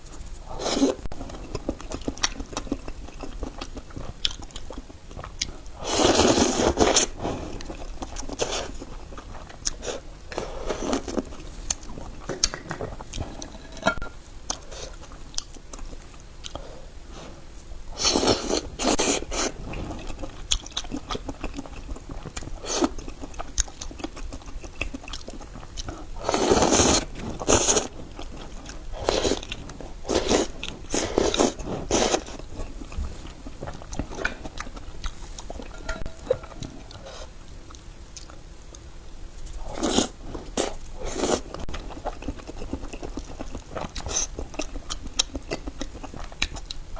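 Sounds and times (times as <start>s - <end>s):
chewing oysters: 0.4s - 16.9s, 17.7s - 46.9s.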